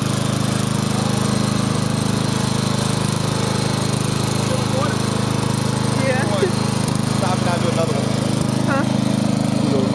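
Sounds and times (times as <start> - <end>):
riding lawn mower engine: 0.0 - 9.9.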